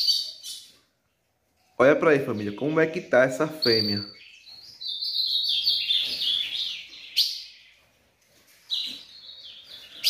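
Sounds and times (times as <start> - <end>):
songbird singing: 0.0 - 10.0.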